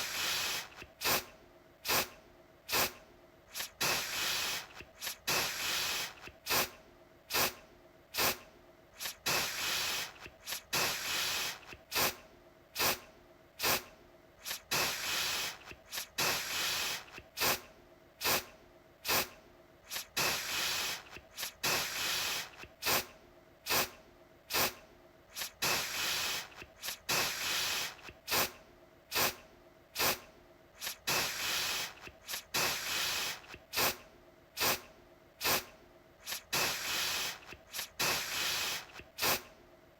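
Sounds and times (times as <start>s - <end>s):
aerosol can spraying: 0.0s - 2.1s, 2.7s - 7.6s, 8.2s - 8.4s, 9.0s - 12.2s, 12.8s - 13.0s, 13.6s - 19.3s, 19.9s - 23.1s, 23.7s - 29.4s, 30.0s - 30.2s, 30.8s - 34.0s, 34.6s - 34.8s, 35.4s - 39.5s.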